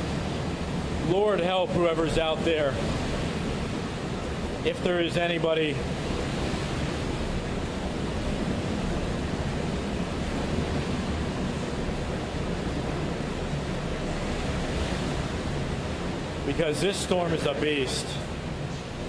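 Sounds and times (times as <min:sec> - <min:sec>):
wind buffeting microphone: 0:00.0 - 0:16.5
hurricane wind rushing: 0:00.0 - 0:19.0.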